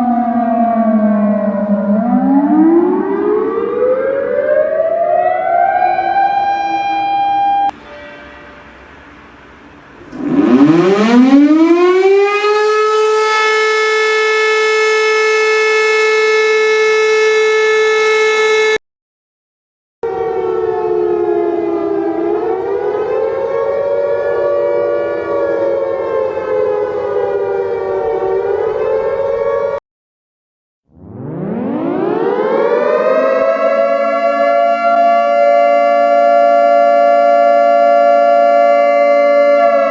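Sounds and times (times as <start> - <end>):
siren with wavering pitch: 0.0 - 9.0, 9.9 - 18.8, 20.0 - 29.8, 30.9 - 39.9
air-raid siren rising tone: 0.0 - 18.8, 20.0 - 29.8, 30.9 - 39.9.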